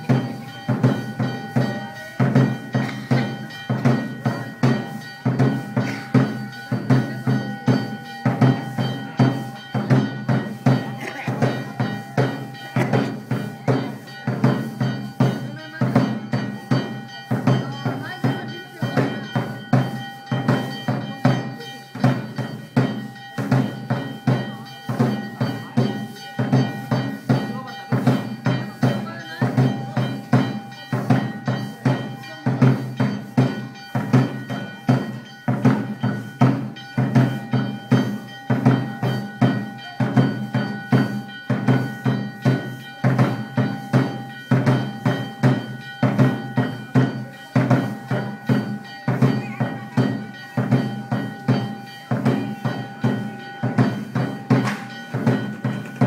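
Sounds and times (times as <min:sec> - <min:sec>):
drums in fast rhythm: 0:00.0 - 0:56.0
ringing metallic tones: 0:00.0 - 0:56.0.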